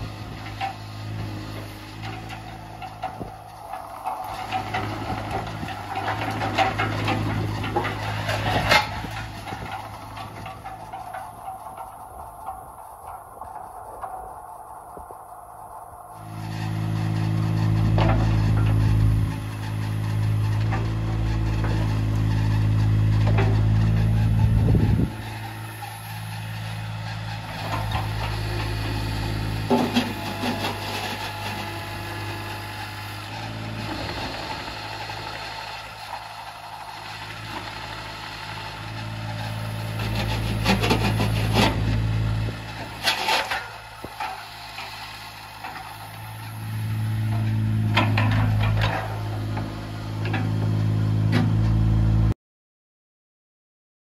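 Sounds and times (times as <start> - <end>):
excavator diesel engine running: 0.0 - 52.4.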